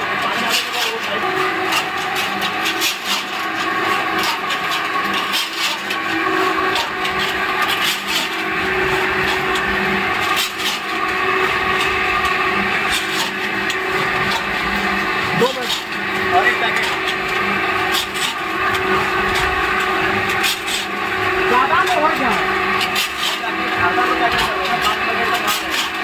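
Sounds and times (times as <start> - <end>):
motor and gearbox hum: 0.0 - 26.0
roller grinding and scraping mortar: 0.0 - 26.0.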